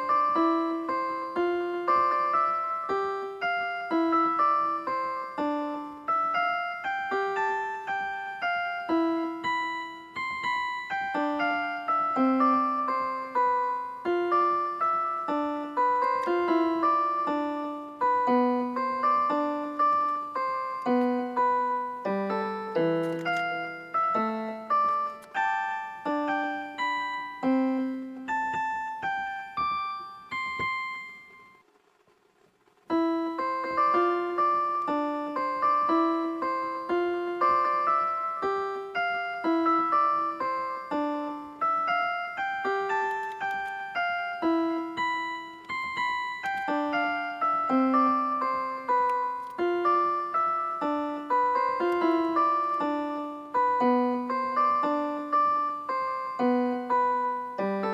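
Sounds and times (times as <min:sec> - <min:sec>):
electric piano background music: 0:00.0 - 0:31.9, 0:32.8 - 0:57.9.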